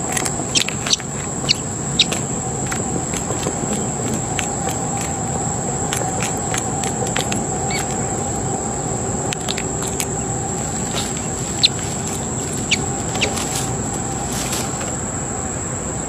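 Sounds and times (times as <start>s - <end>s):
twigs crackling and snapping: 0.0s - 15.0s
high insect drone: 0.0s - 16.0s.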